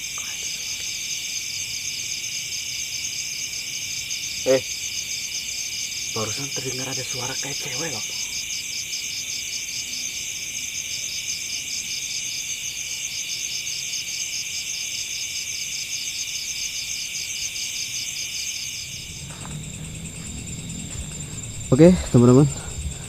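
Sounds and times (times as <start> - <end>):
crickets and insects chirring: 0.0 - 23.0.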